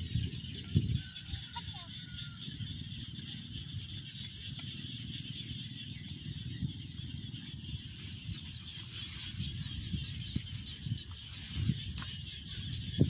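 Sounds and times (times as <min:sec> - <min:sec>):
bird chirps: 0:00.0 - 0:13.0
wind rumble on microphone: 0:00.0 - 0:13.0.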